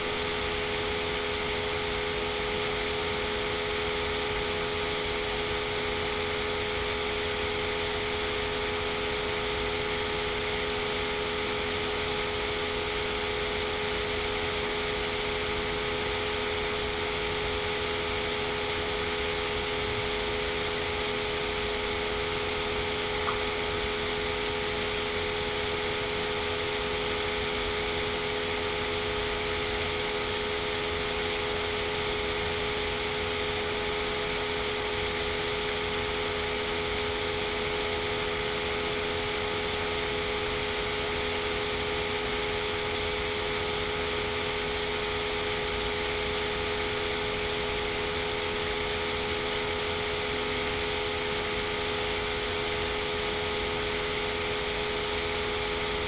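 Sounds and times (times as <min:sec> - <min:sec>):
steady machine hum with hiss: 0:00.0 - 0:56.0.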